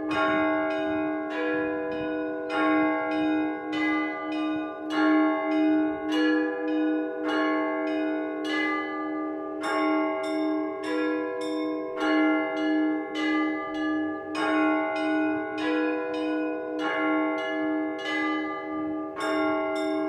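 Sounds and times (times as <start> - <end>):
church bells ringing rhythmically: 0.0 - 20.0.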